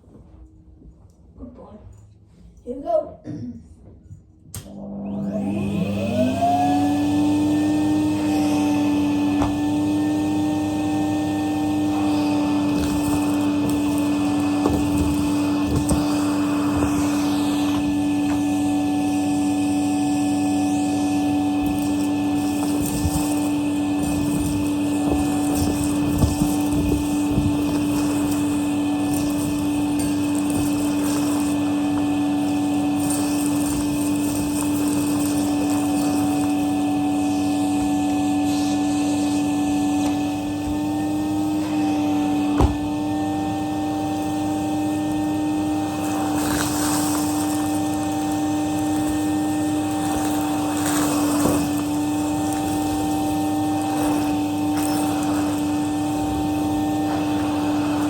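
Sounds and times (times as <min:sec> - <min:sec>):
vacuum cleaner running: 0:04.4 - 0:58.0.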